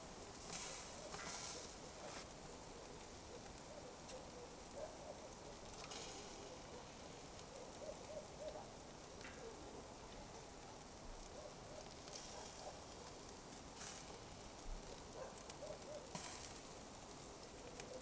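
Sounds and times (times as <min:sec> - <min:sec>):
coals crackling: 0:00.0 - 0:18.0.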